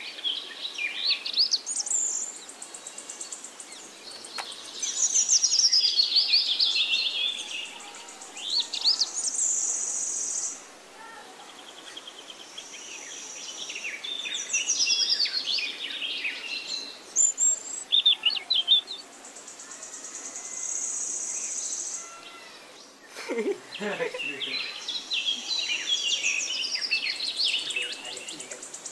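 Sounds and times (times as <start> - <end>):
birds chattering calls: 0.0 - 28.9.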